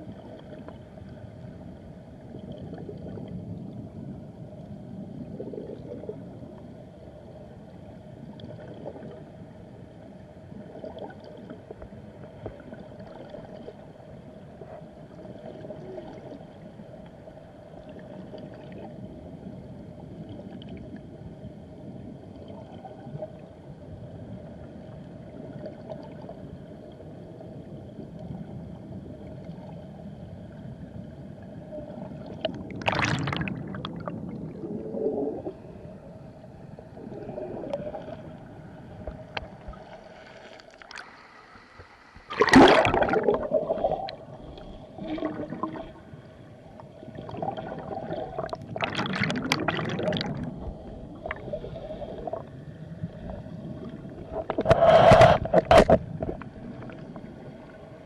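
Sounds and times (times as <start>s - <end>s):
underwater rushing water: 0.0s - 58.0s.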